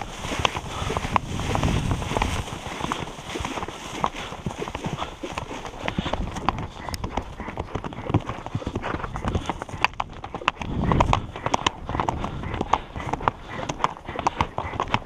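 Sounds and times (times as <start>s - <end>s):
horse hooves on stony trail: 0.0s - 15.0s.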